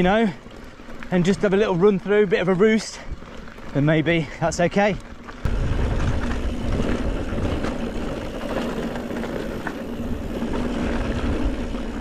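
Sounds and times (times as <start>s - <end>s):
bike tyres rumbling on dirt: 0.0s - 12.0s.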